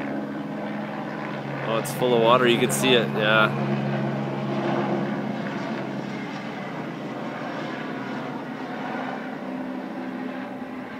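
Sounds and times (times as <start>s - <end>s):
helicopter flying overhead: 0.0s - 10.9s.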